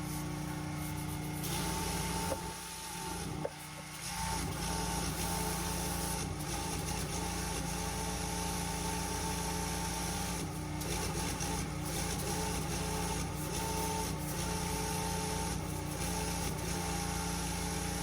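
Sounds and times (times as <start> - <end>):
pressure washer engine: 0.0 - 18.0.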